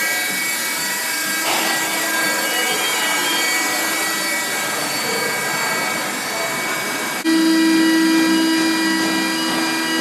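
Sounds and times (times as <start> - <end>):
baling press running with whine: 0.0 - 10.0.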